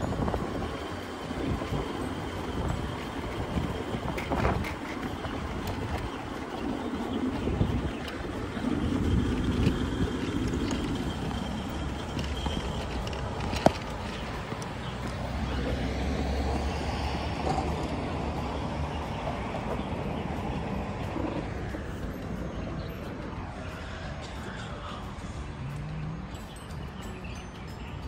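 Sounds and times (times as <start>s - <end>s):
wind rumble on microphone: 0.0s - 26.9s
passing vehicles: 0.0s - 28.0s.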